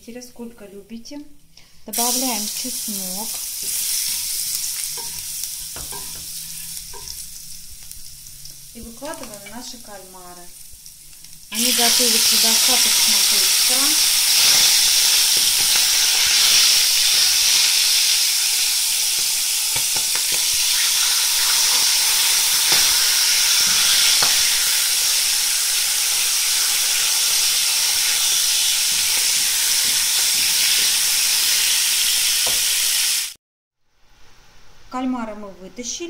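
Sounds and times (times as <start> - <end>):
squid sizzling in oil: 1.9 - 33.4.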